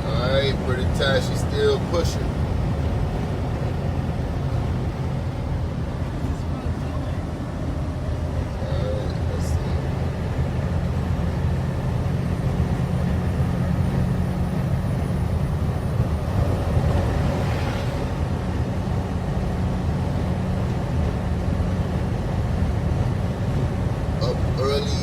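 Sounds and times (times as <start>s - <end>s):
road noise: 0.0s - 25.0s
truck engine drone: 0.0s - 25.0s.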